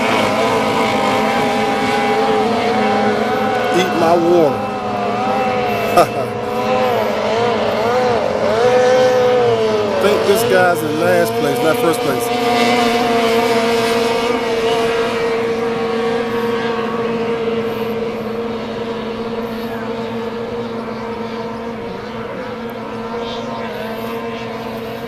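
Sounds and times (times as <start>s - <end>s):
boat engine high-pitched drone: 0.0s - 25.0s.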